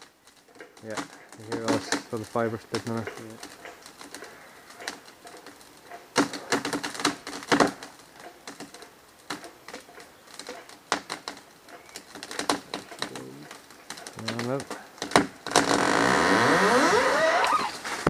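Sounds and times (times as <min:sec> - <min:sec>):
wood cracking and snapping: 0:00.0 - 0:18.0.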